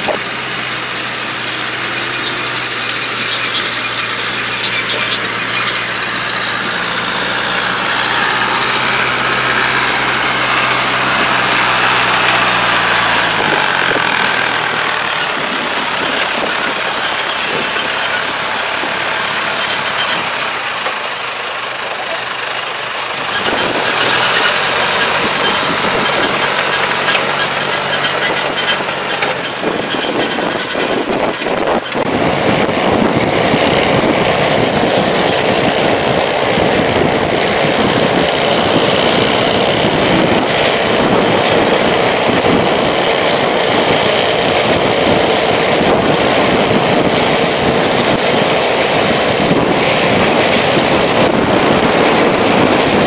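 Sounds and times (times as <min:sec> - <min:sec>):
tractor engine running: 0:00.0 - 0:53.0
wind and road noise: 0:00.0 - 0:53.0.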